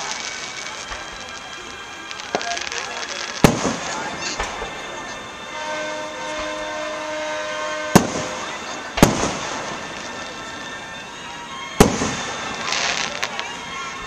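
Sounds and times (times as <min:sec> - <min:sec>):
fireworks shells bursting: 0:00.0 - 0:14.0.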